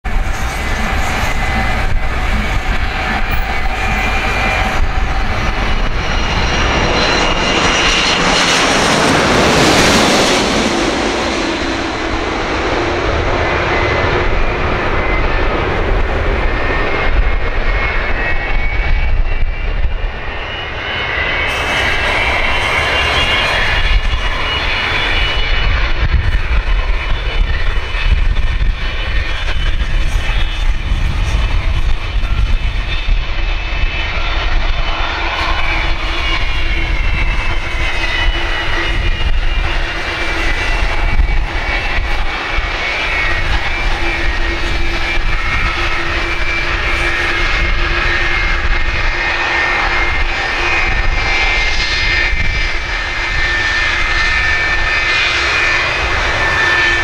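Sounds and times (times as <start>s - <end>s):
jet engines whining overhead: 0.0s - 57.0s.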